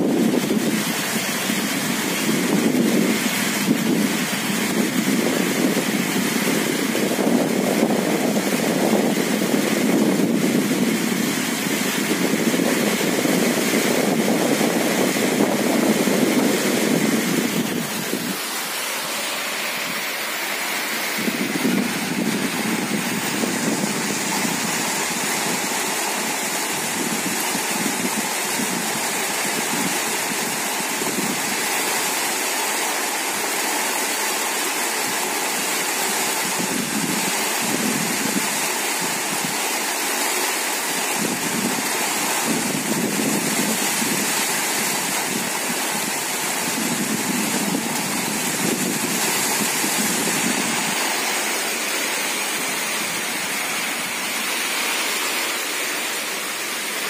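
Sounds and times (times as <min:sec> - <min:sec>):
rain on an umbrella: 0:00.0 - 0:57.0.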